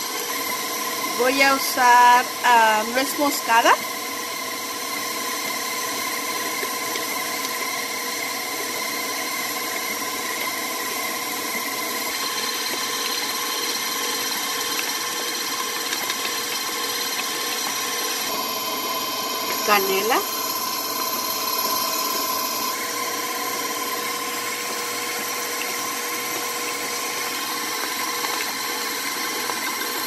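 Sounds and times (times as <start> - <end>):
electric mixer whirring: 0.0 - 30.0.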